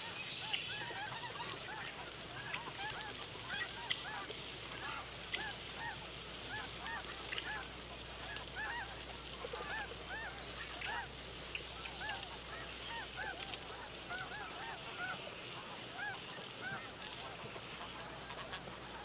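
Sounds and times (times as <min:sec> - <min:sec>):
flock of geese honking: 0:00.0 - 0:19.0.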